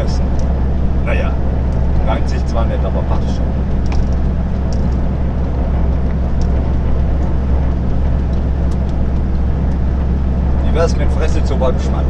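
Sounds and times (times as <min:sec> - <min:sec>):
low engine drone: 0:00.0 - 0:12.0
road noise: 0:00.0 - 0:12.0.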